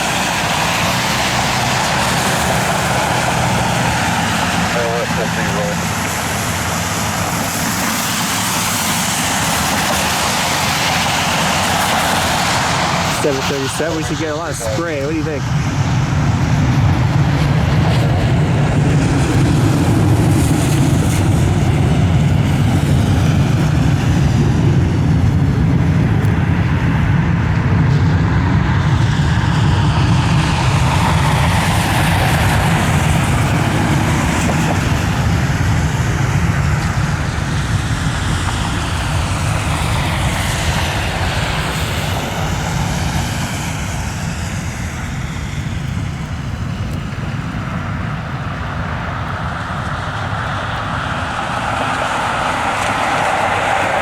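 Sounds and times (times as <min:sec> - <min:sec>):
jet engines at high power: 0:00.0 - 0:54.0.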